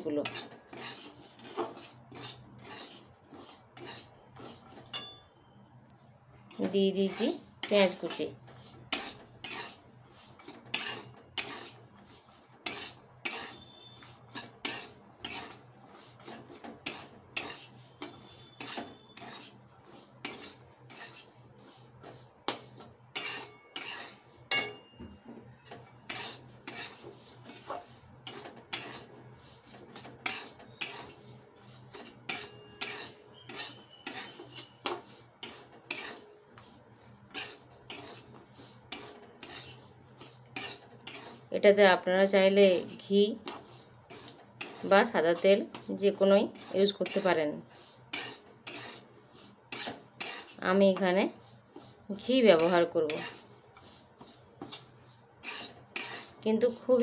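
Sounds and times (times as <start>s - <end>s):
metal spatula scraping metal pan: 0.0s - 5.2s, 6.5s - 57.0s.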